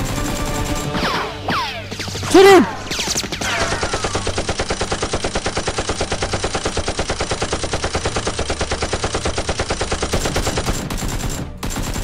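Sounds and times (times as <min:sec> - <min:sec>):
rapid automatic gunfire: 0:00.0 - 0:01.2, 0:02.9 - 0:12.0.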